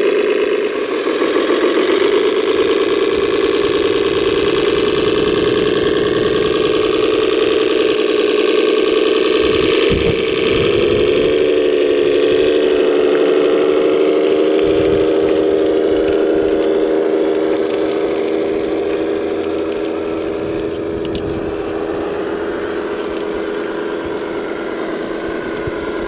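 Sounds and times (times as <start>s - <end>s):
model vehicle mechanical drone: 0.0s - 26.0s.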